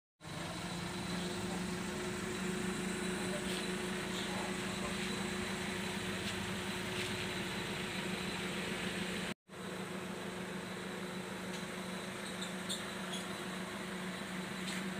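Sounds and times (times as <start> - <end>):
engine humming steadily: 0.2 - 14.9.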